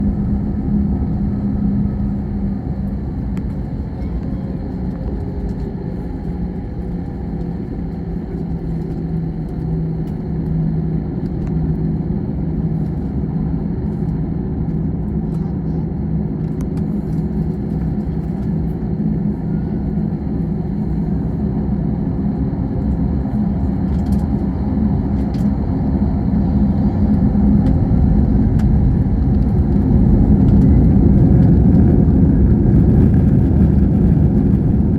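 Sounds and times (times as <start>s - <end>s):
aircraft cabin engine rumble: 0.0s - 34.9s.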